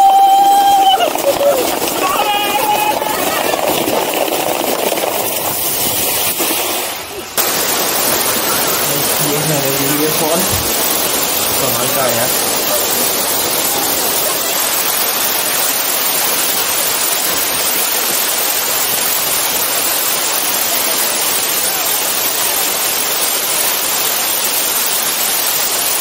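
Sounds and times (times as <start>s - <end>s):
water falling and splashing: 0.0s - 26.0s.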